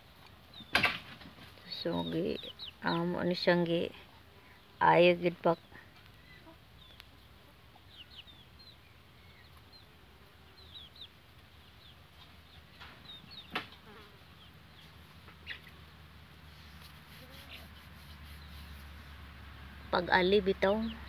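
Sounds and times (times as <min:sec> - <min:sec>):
chicks peeping: 0:00.2 - 0:03.9, 0:04.5 - 0:21.0.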